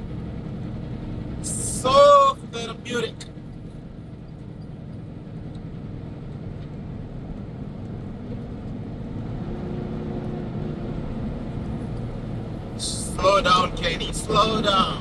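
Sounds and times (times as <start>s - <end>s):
truck engine: 0.0s - 15.0s.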